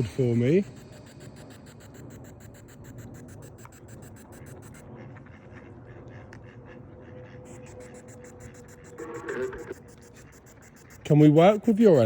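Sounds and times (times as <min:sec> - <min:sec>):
rapid pulsing static: 0:00.0 - 0:05.9, 0:07.2 - 0:12.0
faint steady tone: 0:00.0 - 0:12.0.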